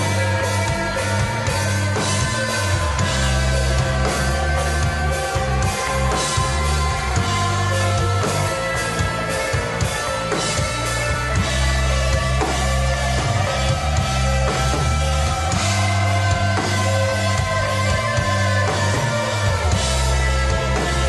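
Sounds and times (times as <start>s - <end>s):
bass guitar: 0.0s - 21.0s
drum kit with cymbals: 0.0s - 21.0s
electric guitars sustained chords: 0.0s - 21.0s.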